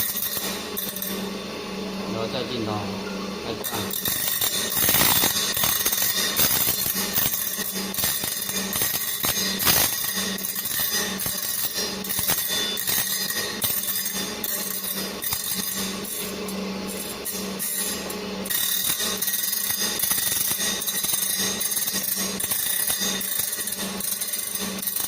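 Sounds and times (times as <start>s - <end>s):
grinding wheel hissing: 0.0s - 2.7s, 3.4s - 25.0s
grinder humming: 0.0s - 25.0s.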